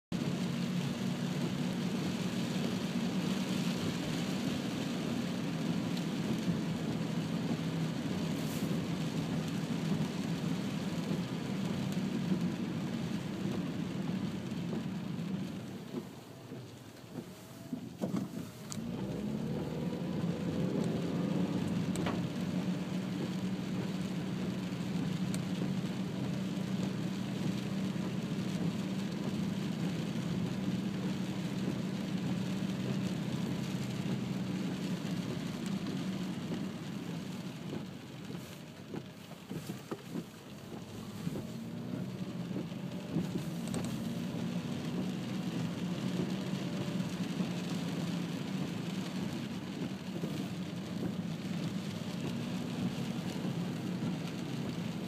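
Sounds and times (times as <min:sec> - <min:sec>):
car engine hum: 0:00.1 - 0:55.0
rain: 0:00.1 - 0:55.0
tyres hissing on wet road: 0:00.2 - 0:55.0.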